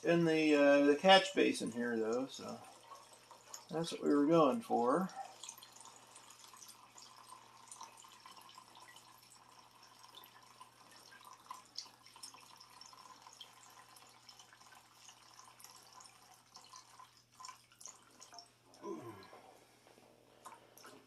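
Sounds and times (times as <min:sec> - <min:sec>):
kerosene trickling into a pan: 0:00.0 - 0:19.4
scattered drips: 0:00.3 - 0:19.4.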